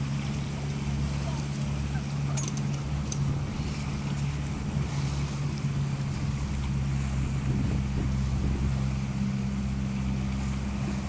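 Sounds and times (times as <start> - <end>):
motorboat engine humming: 0.0 - 11.0
rushing water: 0.0 - 11.0
wind: 0.0 - 11.0.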